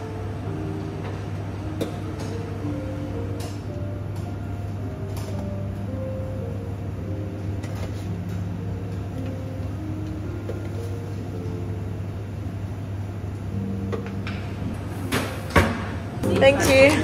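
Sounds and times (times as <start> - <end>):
shop equipment hum: 0.0 - 17.0.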